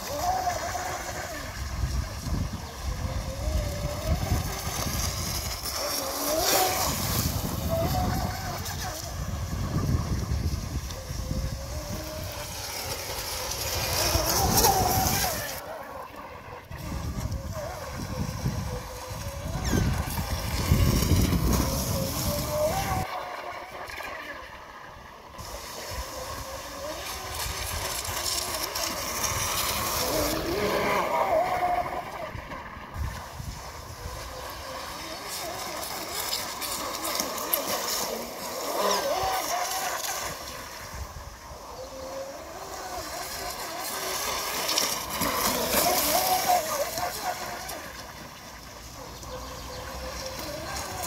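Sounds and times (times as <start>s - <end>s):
wind buffeting microphone: 0.0s - 23.1s, 25.4s - 48.3s
toy boat motor whine: 0.0s - 51.0s.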